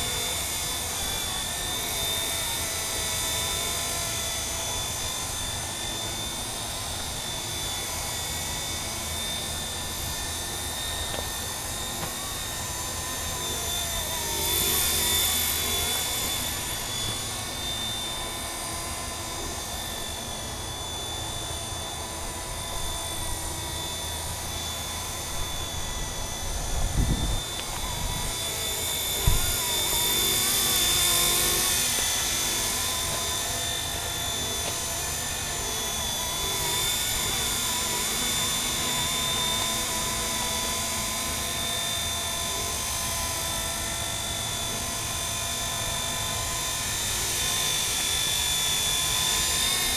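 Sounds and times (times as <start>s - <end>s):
model helicopter high whine: 0.0s - 49.9s.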